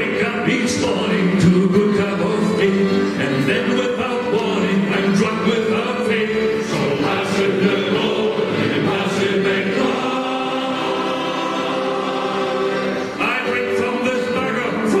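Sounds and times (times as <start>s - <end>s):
male choir singing: 0.0s - 15.0s.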